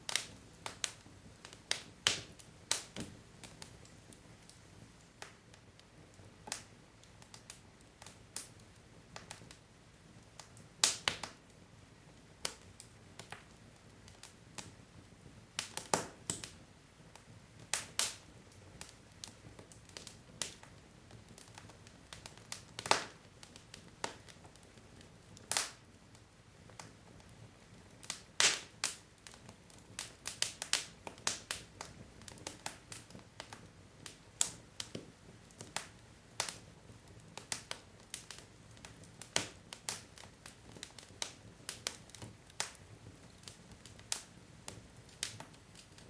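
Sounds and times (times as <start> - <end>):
faint low hiss: 0.0 - 46.0
fire popping and snapping: 0.0 - 46.0
logs crackling in fireplace: 0.0 - 46.0.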